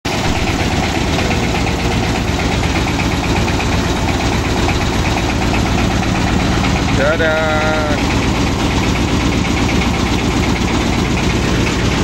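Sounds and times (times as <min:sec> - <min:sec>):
diesel boat engine knocking: 0:00.1 - 0:12.0.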